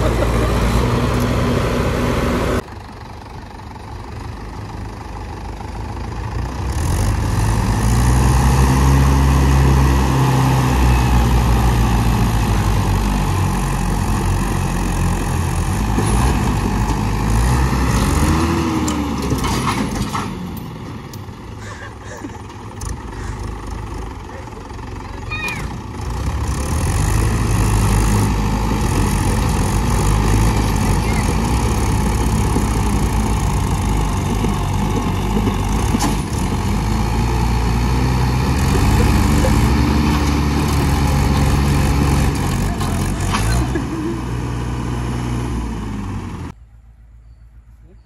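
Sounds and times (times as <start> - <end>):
tractor diesel engines working hard: 0.0 - 48.0.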